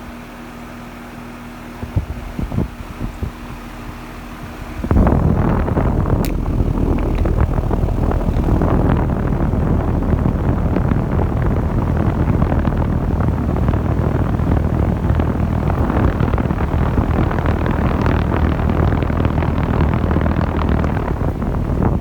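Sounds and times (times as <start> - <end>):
compressor low hum: 0.0 - 22.0
heat pump fan rushing: 0.0 - 22.0.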